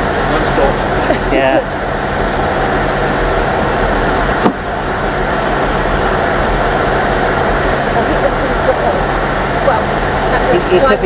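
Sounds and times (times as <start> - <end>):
diesel train engines idling: 0.0 - 11.0.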